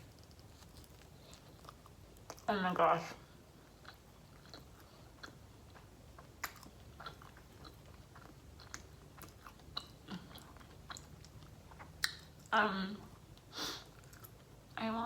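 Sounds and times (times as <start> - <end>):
chewing crunchy food: 0.0 - 2.5, 3.2 - 14.8.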